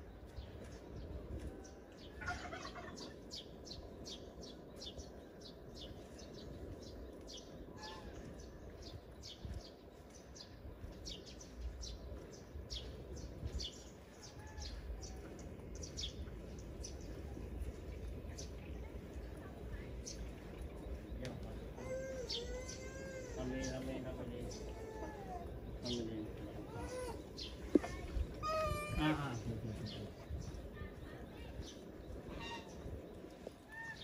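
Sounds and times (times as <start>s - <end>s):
low background noise: 0.0s - 34.0s
small birds chirping: 0.0s - 34.0s.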